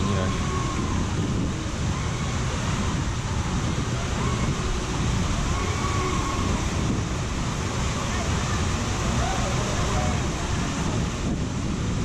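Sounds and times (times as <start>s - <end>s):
water rushing down slide: 0.0s - 12.0s
wind buffeting microphone: 0.0s - 12.0s.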